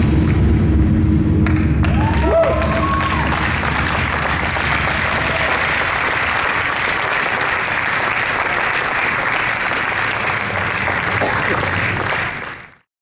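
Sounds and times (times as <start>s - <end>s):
audience applauding: 1.4s - 12.9s.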